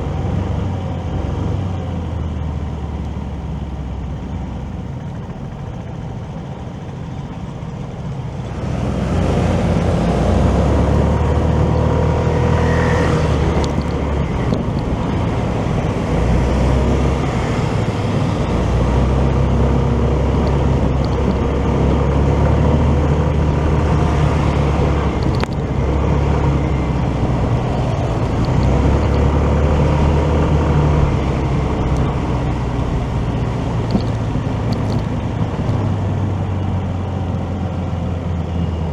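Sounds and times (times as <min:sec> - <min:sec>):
motorcycle engine and road noise: 0:00.0 - 0:38.9.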